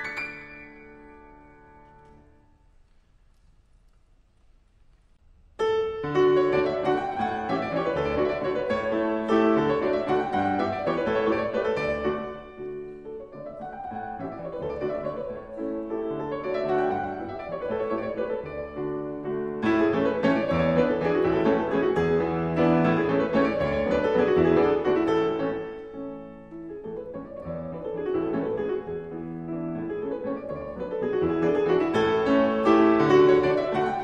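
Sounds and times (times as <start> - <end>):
background piano music: 0.0 - 2.8, 5.6 - 34.0.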